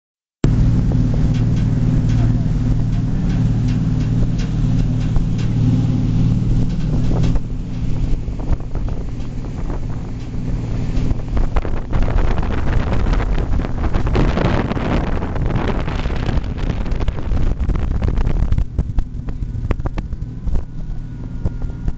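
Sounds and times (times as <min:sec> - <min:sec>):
ferry engines droning: 0:00.4 - 0:17.4, 0:18.1 - 0:21.9
wind buffeting microphone: 0:00.4 - 0:21.9.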